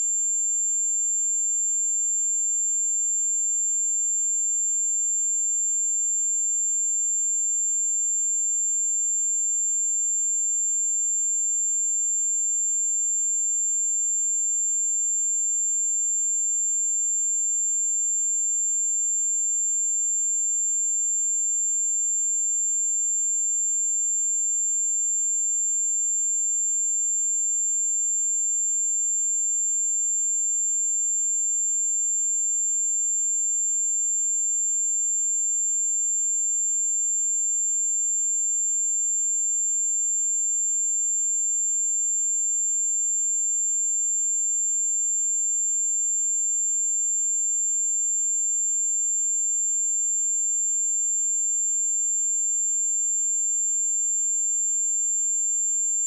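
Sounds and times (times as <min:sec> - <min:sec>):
high-pitched sine test tone: 0:00.0 - 0:56.0.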